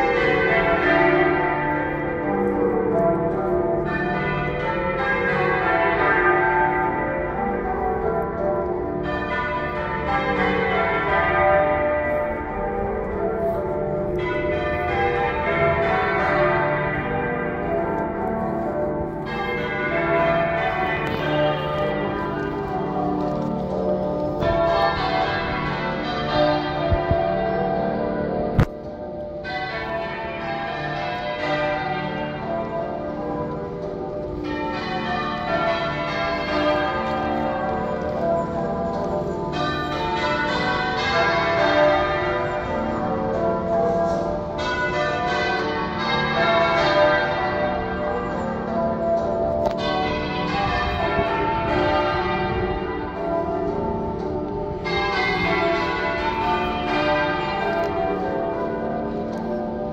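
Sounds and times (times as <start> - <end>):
half-muffled church bells ringing: 0.0 - 59.9.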